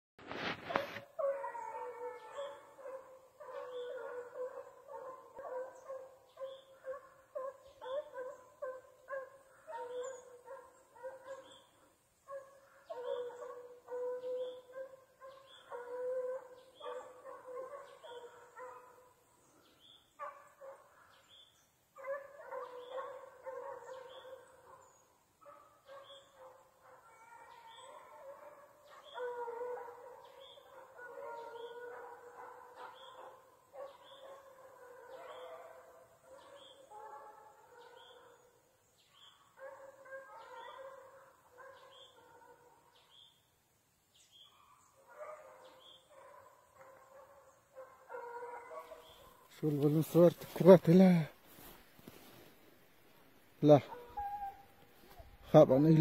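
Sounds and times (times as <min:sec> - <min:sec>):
hounds baying: 0:00.4 - 0:19.2, 0:20.2 - 0:21.4, 0:22.0 - 0:38.6, 0:39.2 - 0:42.9, 0:44.4 - 0:52.5, 0:53.6 - 0:56.0.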